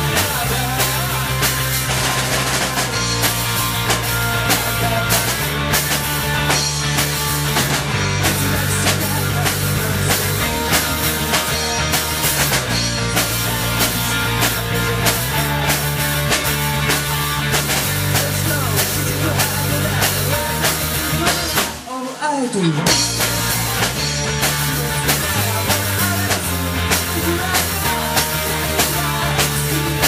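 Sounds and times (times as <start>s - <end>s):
bass line: 0.0s - 22.0s, 22.6s - 30.0s
drum kit beat: 0.0s - 30.0s
guitar: 0.0s - 30.0s.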